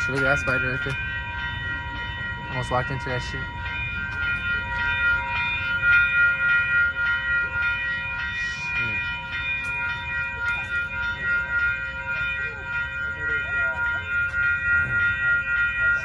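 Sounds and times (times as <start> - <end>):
train idling: 0.0 - 16.0.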